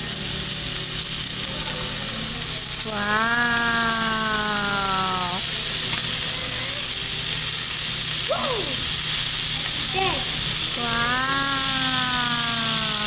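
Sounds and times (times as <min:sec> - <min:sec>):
beef sizzling on grill plate: 0:00.0 - 0:13.0.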